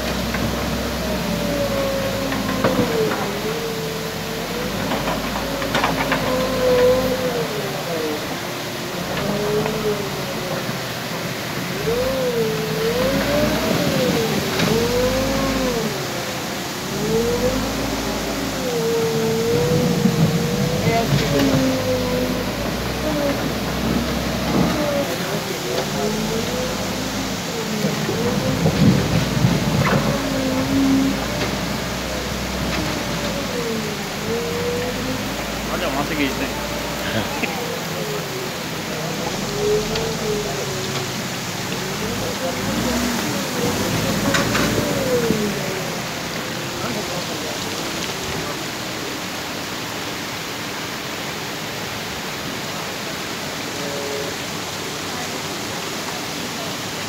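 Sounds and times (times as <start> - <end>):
backhoe diesel engine running: 0.0 - 50.6
water rushing over stones: 0.0 - 57.0.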